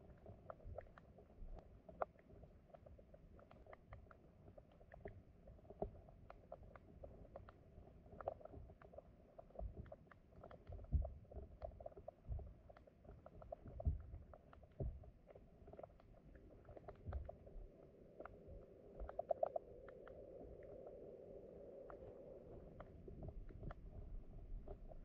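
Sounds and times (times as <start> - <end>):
muffled underwater water flow: 0.0 - 25.0
small clicks and ticks: 0.0 - 25.0.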